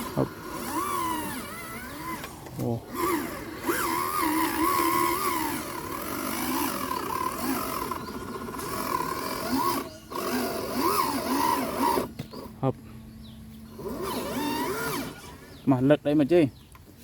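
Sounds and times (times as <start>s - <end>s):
rc truck motor whining: 0.0s - 12.6s, 13.6s - 15.7s.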